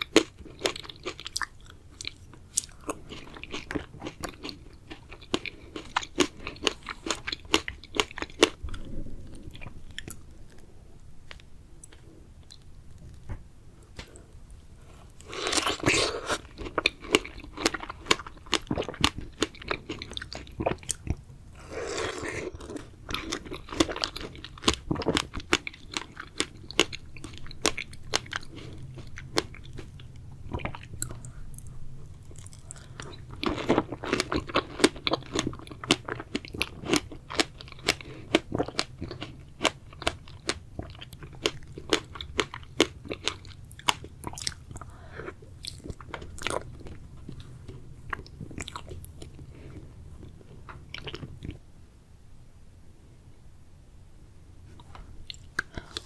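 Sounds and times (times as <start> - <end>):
chewing strawberries: 0.0 - 13.3, 15.2 - 51.6.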